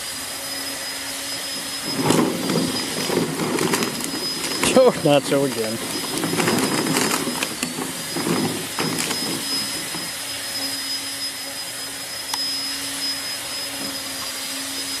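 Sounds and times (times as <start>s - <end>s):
mechanical whir with high whine: 0.0s - 15.0s.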